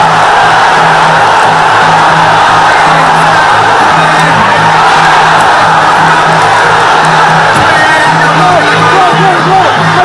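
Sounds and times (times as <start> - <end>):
pulsing drum beat: 0.0 - 10.0.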